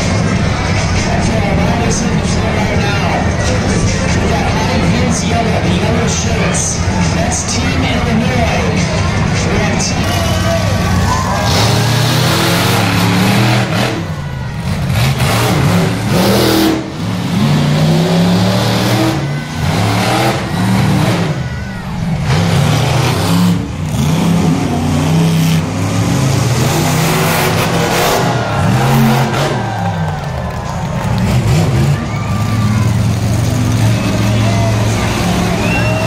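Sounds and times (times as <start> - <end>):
truck engine revving: 0.0 - 36.0.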